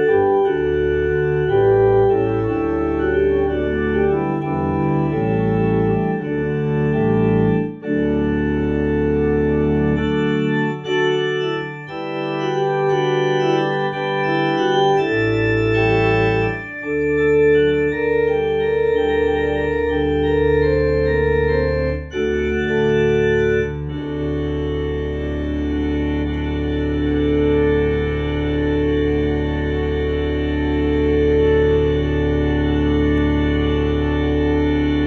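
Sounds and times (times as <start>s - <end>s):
electronic organ playing hymn chords: 0.0s - 35.0s.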